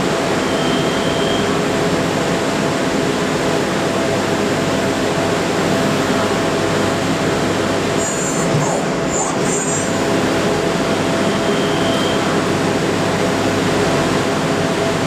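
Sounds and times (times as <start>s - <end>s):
lathe mechanical hum: 0.0s - 15.0s.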